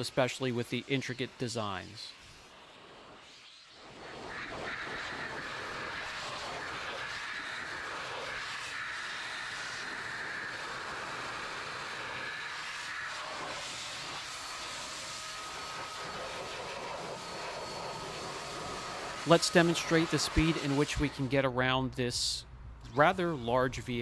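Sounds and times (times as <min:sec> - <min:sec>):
car dryer blower whining: 0:00.0 - 0:21.7.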